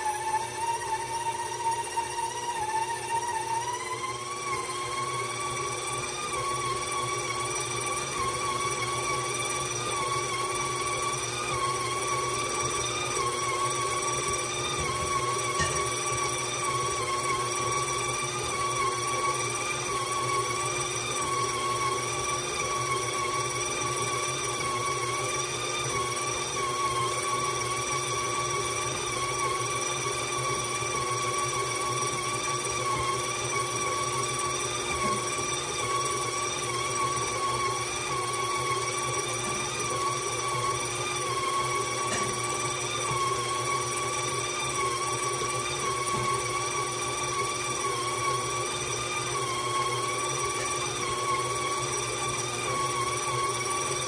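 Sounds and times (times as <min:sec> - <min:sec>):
stand mixer motor whine: 0:00.0 - 0:54.0.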